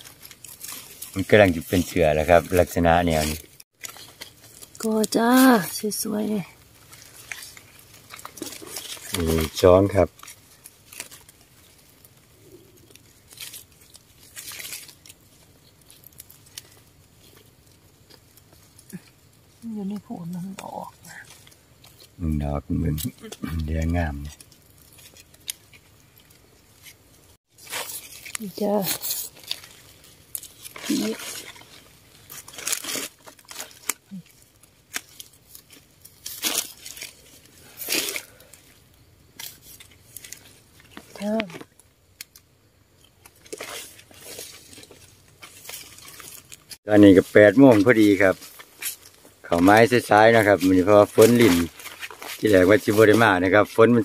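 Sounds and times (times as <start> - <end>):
dry leaves rustling and crunching: 0.0 - 54.0.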